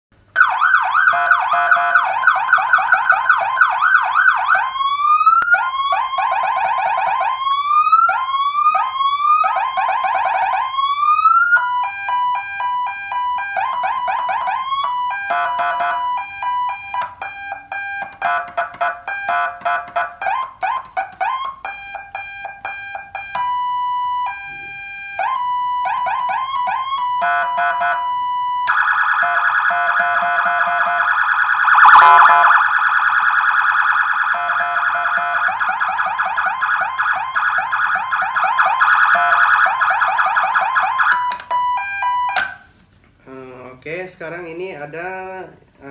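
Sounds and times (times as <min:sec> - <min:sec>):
electronic vehicle siren: 0:00.4 - 0:42.6.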